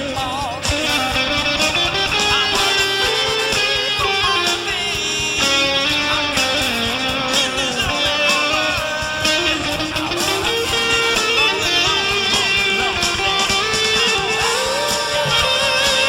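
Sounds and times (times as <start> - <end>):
band playing guitar-led jam: 0.0 - 16.0.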